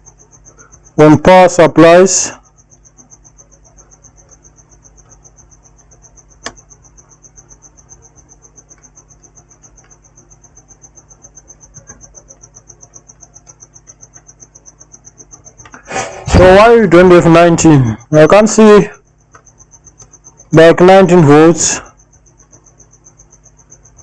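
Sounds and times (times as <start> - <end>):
high-pitched pulsing chirp: 0.0 - 24.0.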